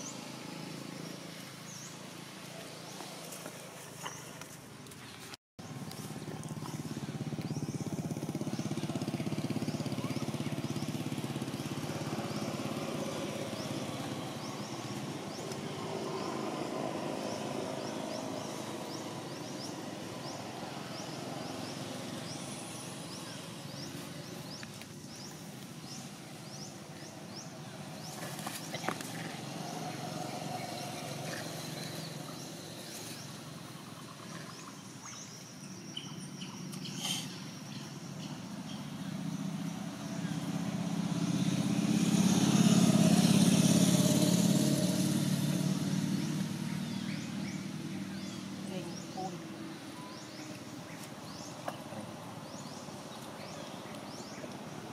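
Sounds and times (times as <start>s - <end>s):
distant traffic drone: 0.0s - 54.9s.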